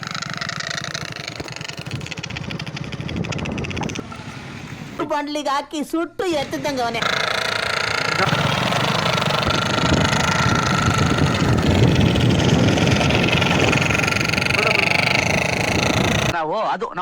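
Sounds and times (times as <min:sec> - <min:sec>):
motorcycle engine rumble: 0:00.0 - 0:05.1, 0:06.3 - 0:16.4.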